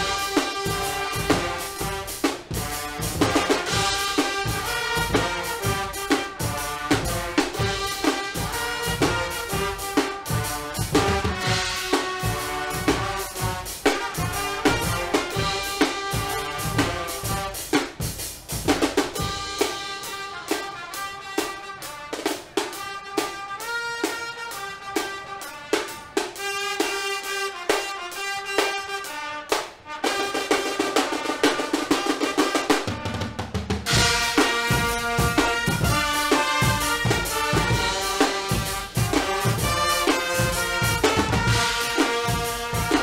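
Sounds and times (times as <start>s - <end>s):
brass band playing: 0.0s - 43.0s
snare drum cymbals and bass drum: 0.0s - 43.0s.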